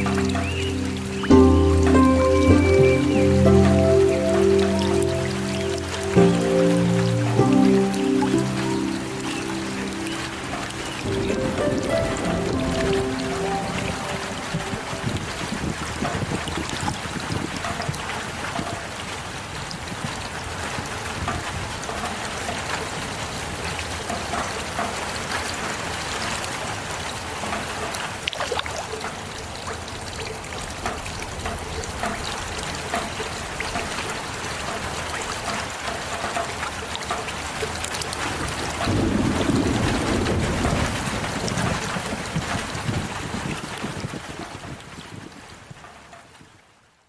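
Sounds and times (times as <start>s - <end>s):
heavy rain: 0.0s - 46.2s.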